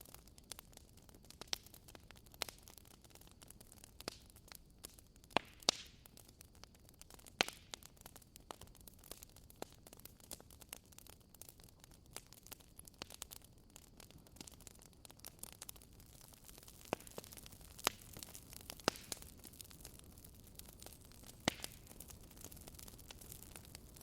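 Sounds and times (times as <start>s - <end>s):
fire pops and snaps: 0.0s - 24.0s
soft steady hiss: 0.0s - 24.0s
wood fire crackling: 0.0s - 24.0s.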